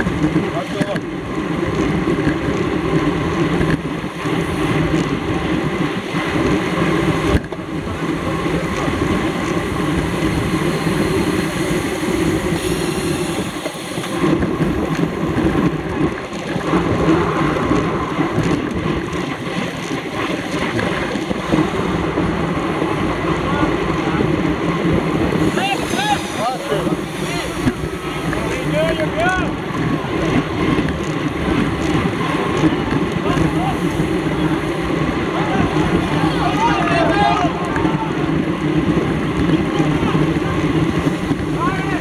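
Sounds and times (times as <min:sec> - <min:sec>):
wind noise on microphone: 0:00.0 - 0:42.0.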